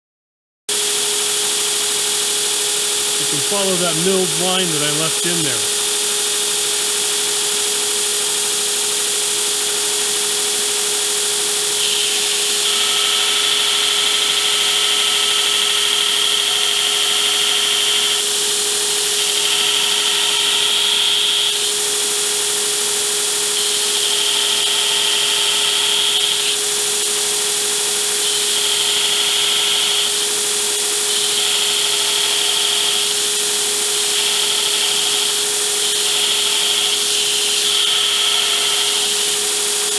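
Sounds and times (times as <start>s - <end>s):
power tool motor humming: 5.6s - 39.9s.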